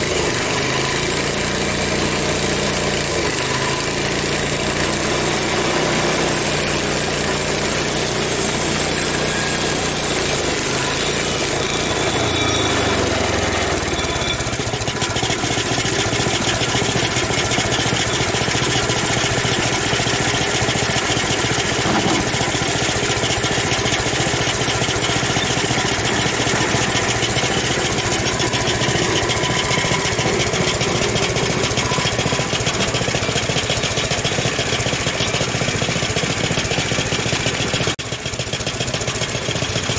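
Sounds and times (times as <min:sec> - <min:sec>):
sawmill engine roaring: 0:00.0 - 0:39.9.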